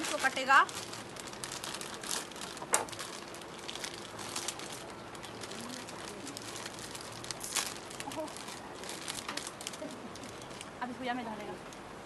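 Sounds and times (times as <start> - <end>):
plastic packets crinkling: 0.0 - 10.7
sharp plastic crackles: 0.0 - 10.8.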